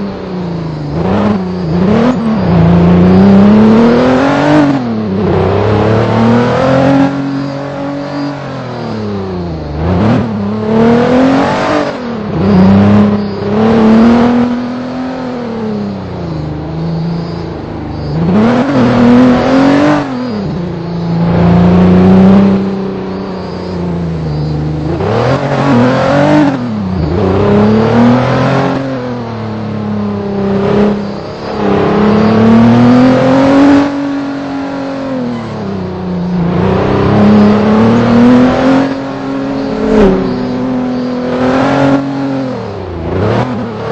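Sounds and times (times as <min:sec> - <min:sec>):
vehicle engine revving: 0:00.0 - 0:43.9.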